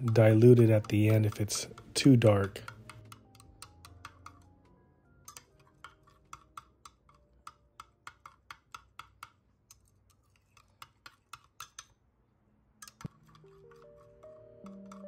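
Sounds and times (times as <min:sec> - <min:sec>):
metal stirrer clicking on glass cup: 0:00.0 - 0:04.6, 0:05.3 - 0:12.0, 0:12.8 - 0:15.0.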